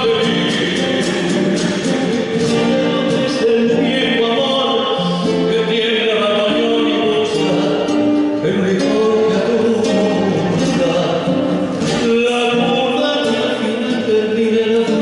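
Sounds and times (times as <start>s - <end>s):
instrumental accompaniment: 0.0s - 15.0s
man singing tango: 0.0s - 15.0s.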